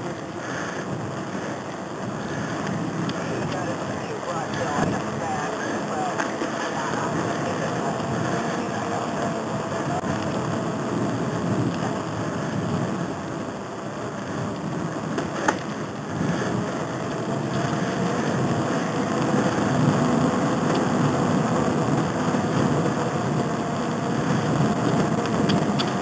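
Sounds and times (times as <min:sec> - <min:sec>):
tyres rolling on asphalt: 0:00.0 - 0:26.0
wind buffeting microphone: 0:00.0 - 0:26.0.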